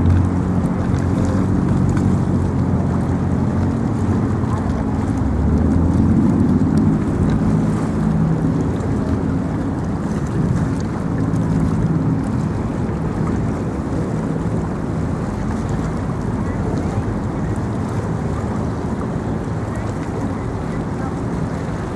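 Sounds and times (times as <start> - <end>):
low engine drone: 0.0 - 21.9
wind noise on microphone: 0.0 - 21.9.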